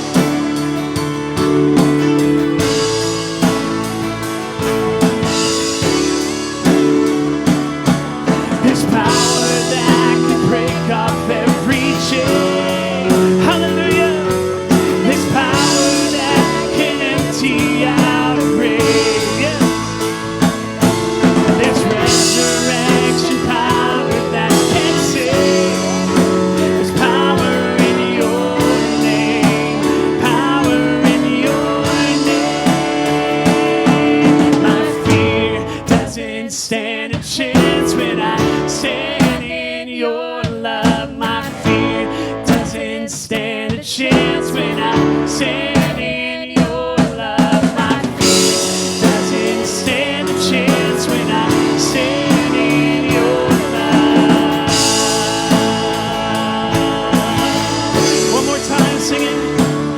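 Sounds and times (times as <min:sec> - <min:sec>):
band playing guitar and drums: 0:00.0 - 0:59.9
voices singing: 0:00.0 - 0:59.9.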